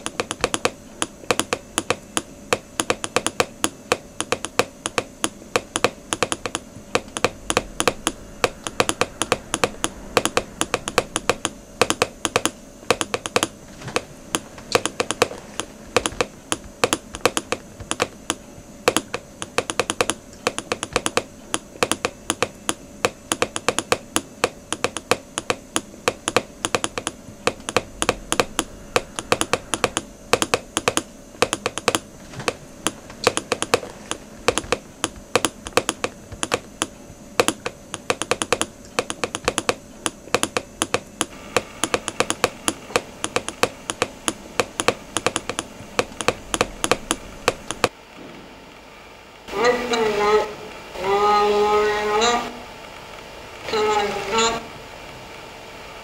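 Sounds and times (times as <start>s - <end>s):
rapid irregular clicking: 0.0s - 48.0s
faint steady hum: 0.0s - 56.0s.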